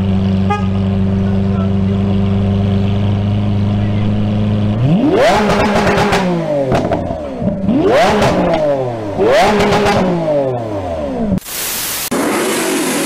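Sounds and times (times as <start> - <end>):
car engine idling: 0.0 - 11.4
car engine revving: 0.0 - 11.4.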